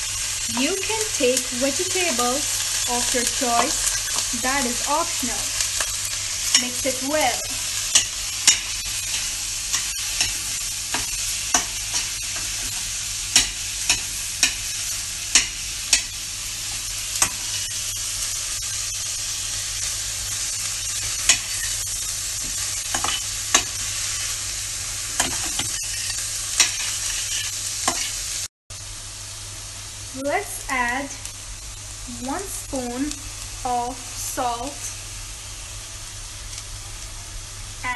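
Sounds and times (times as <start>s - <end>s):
vegetables sizzling in a pan: 0.0s - 37.9s.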